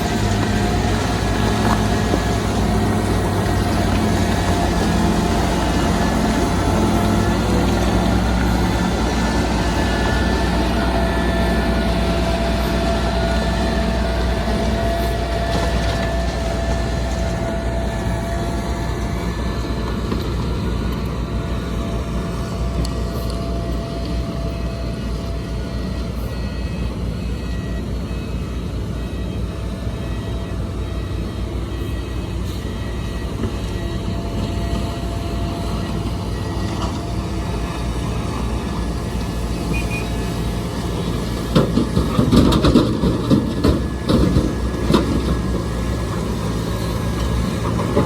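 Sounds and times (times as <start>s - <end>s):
bulldozer diesel engine running: 0.0s - 48.0s
thin steady whine: 0.0s - 48.0s.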